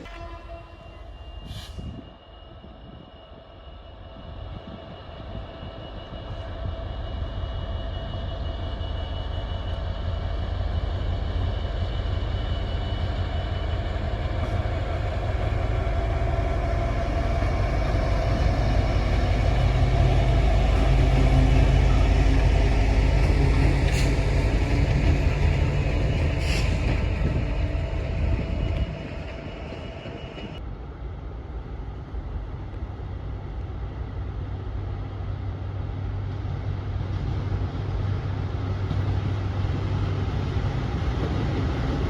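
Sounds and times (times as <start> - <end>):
train approaching: 0.0 - 42.0.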